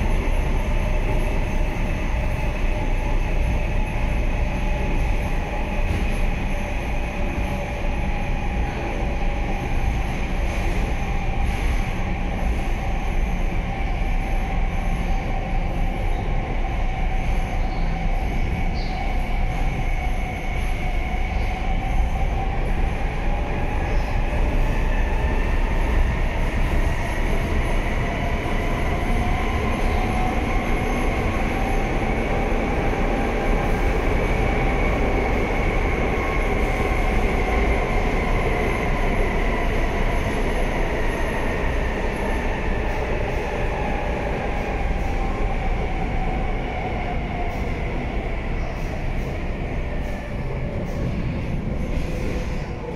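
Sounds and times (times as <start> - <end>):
wheels rumbling on rail: 0.0 - 52.9.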